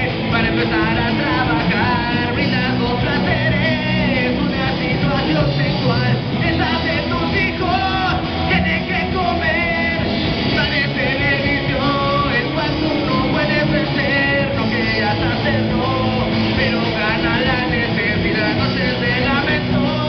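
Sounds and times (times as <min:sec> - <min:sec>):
drum kit: 0:00.0 - 0:20.0
electric guitars: 0:00.0 - 0:20.0
man singing into a microphone: 0:00.0 - 0:20.0.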